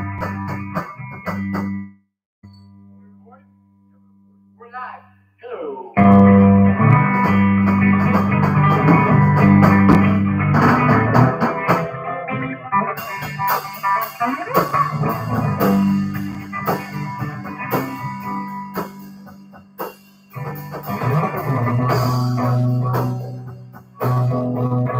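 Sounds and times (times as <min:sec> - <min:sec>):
electric guitar: 0:00.0 - 0:01.9, 0:05.9 - 0:24.9
drums: 0:00.0 - 0:02.0, 0:06.0 - 0:24.9
bass: 0:00.0 - 0:04.7, 0:06.0 - 0:24.9.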